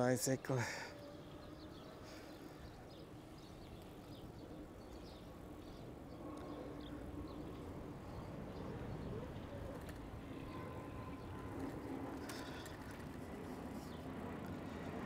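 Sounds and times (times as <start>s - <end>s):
distant traffic hum: 0.0s - 15.0s.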